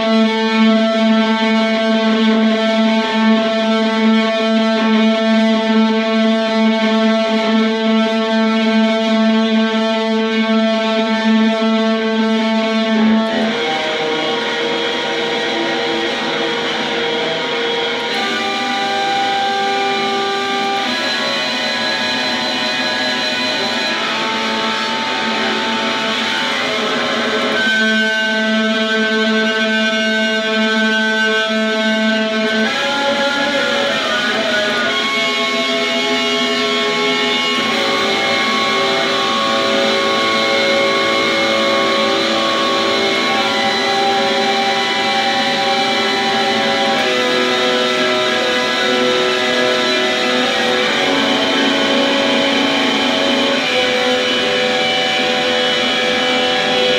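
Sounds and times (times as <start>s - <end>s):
bowed electric guitar: 0.0s - 56.9s.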